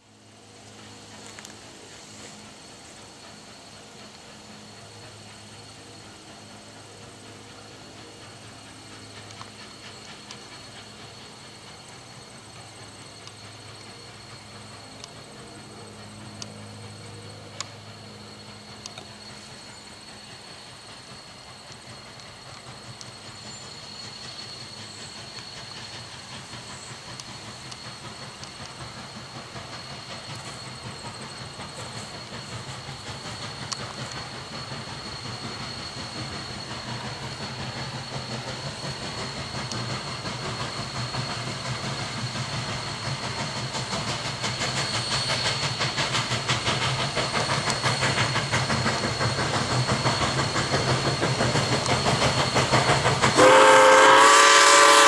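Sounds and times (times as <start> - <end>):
rhythmic train clatter: 0.0 - 55.0
train approaching: 0.0 - 55.0.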